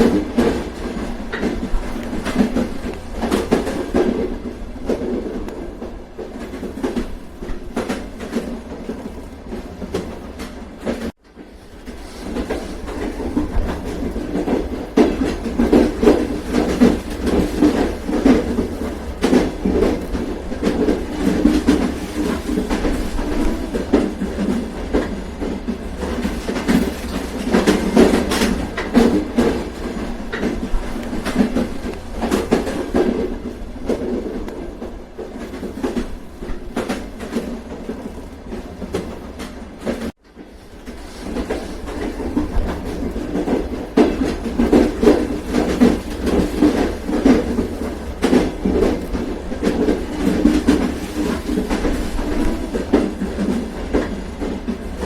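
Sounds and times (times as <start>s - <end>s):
train rumbling on rails: 0.0s - 55.0s
wheels clicking over rail joints: 0.0s - 55.0s.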